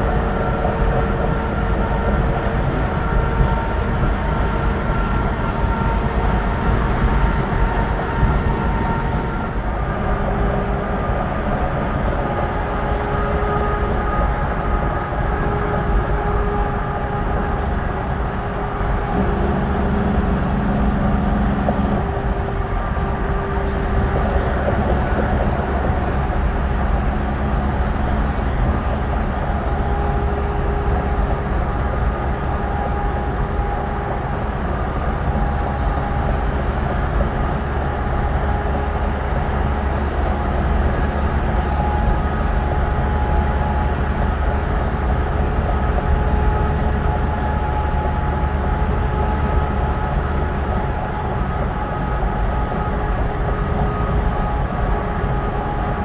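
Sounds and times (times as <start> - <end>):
highway traffic rush: 0.0 - 56.0
truck droning hum: 0.0 - 56.0.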